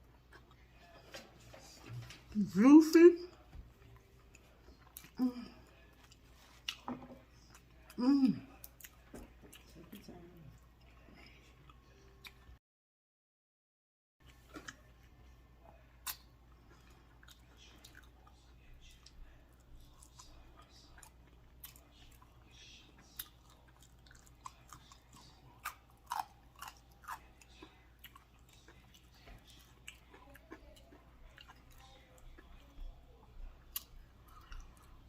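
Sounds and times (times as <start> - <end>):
person chewing: 0.1 - 1.2, 3.8 - 12.6, 14.2 - 35.0.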